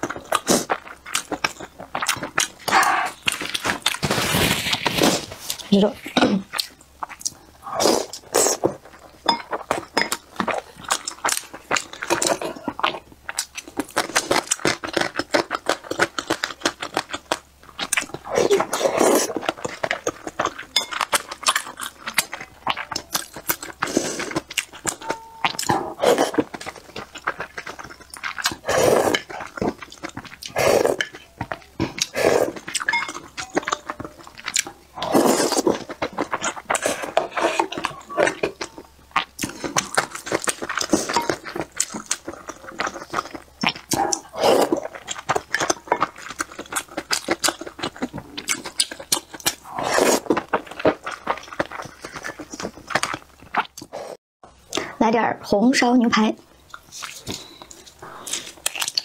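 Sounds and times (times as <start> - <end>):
chewing and wet mouth sounds: 0.0 - 55.0, 56.2 - 59.0.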